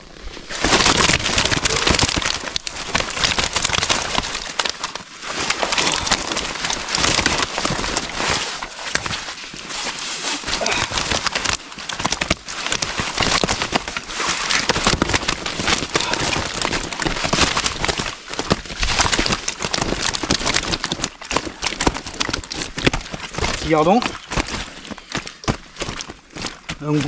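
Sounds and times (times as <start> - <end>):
fish thrashing: 0.4 - 27.0.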